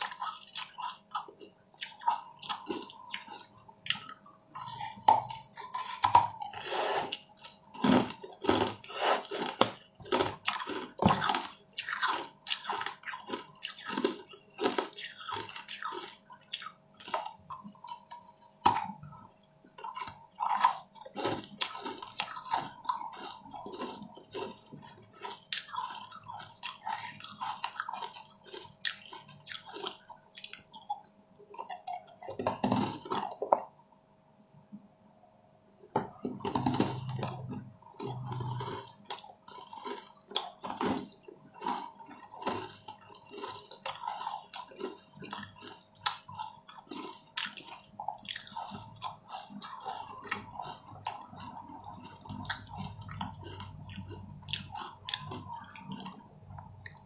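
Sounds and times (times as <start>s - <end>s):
chewing and wet mouth sounds: 0.0s - 33.8s, 36.0s - 57.0s.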